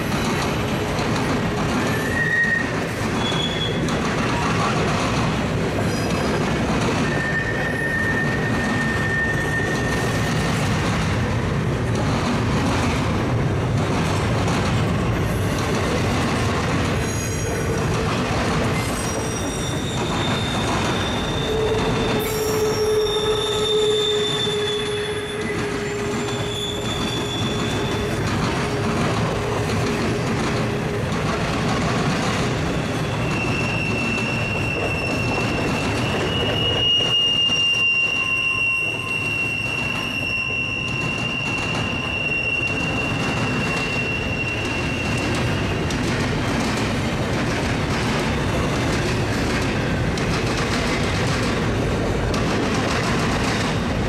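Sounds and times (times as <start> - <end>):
freight train rumbling past: 0.0 - 54.0
train wheels squealing: 1.6 - 12.2, 14.9 - 54.0.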